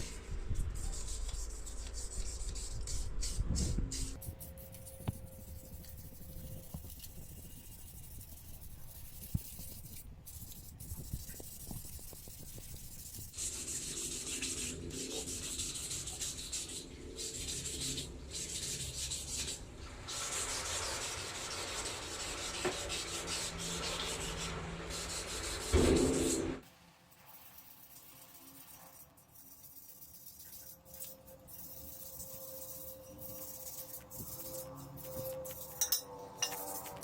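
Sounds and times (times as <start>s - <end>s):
sanding metal: 0.0s - 37.0s.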